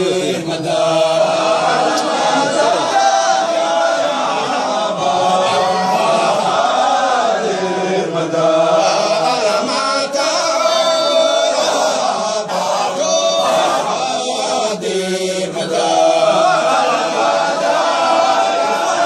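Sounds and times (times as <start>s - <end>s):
lead voice singing: 0.0s - 19.0s
men chanting together: 0.0s - 19.0s.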